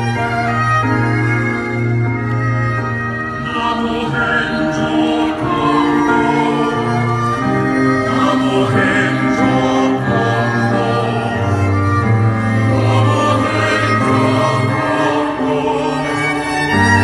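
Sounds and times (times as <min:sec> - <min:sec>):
bowed strings: 0:00.0 - 0:17.0
choir singing: 0:03.2 - 0:17.0.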